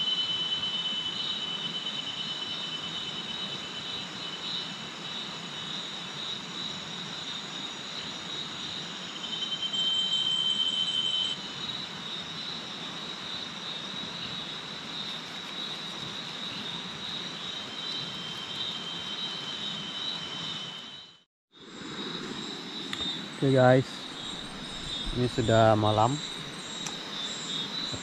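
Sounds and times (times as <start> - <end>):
insects droning: 0.0 - 28.0
pulsing insect call: 0.0 - 28.0.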